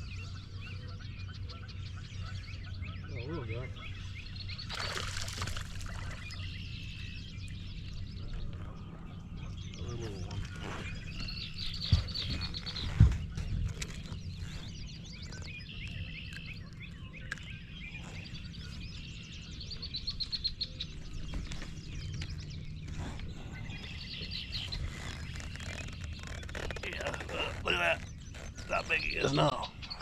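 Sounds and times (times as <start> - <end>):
low outdoor rumble: 0.0 - 30.0
songbirds singing trills: 0.0 - 30.0.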